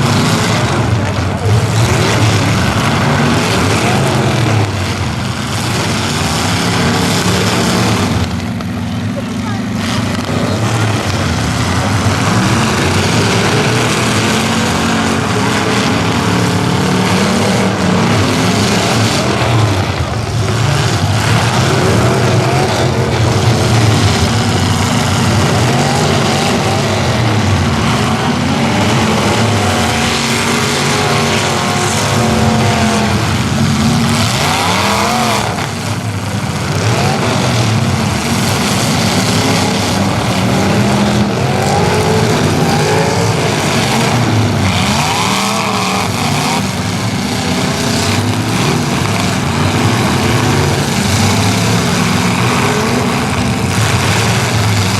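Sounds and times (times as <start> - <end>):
car engines revving: 0.0 - 54.9
cars knocking together: 0.0 - 54.9.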